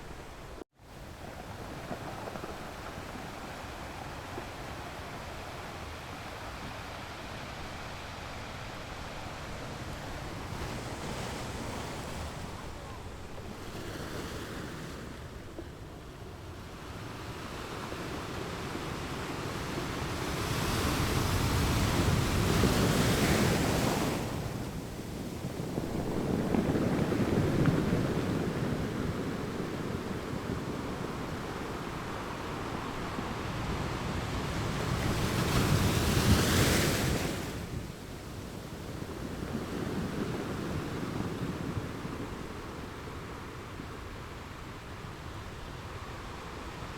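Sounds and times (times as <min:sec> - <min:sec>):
ocean waves breaking on beach: 0:00.0 - 0:46.9.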